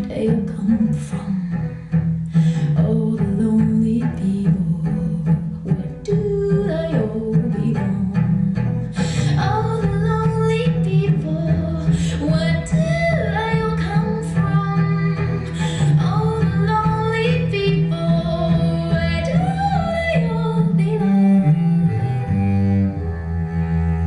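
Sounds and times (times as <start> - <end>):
low bowed strings: 0.0 - 24.0
steady bass: 0.0 - 24.0.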